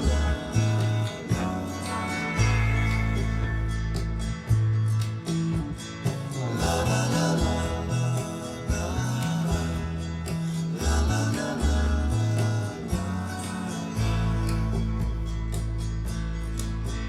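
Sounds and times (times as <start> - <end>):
bass line: 0.0 - 17.0
pop-country song: 0.0 - 17.0
strummed acoustic guitar: 0.0 - 17.0.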